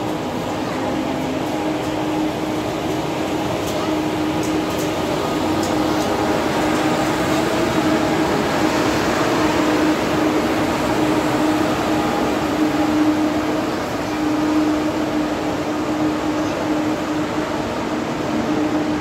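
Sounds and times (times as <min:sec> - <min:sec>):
train equipment hum: 0:00.0 - 0:19.0
wheels rolling on rail: 0:00.0 - 0:19.0.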